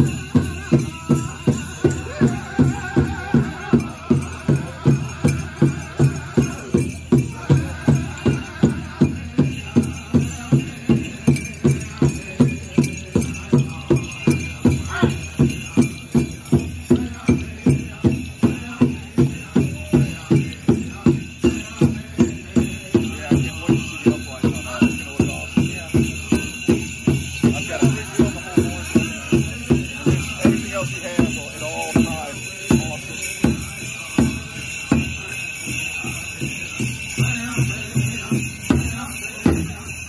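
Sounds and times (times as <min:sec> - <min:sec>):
bells jingling: 0:00.0 - 0:40.0
people singing: 0:00.0 - 0:40.0.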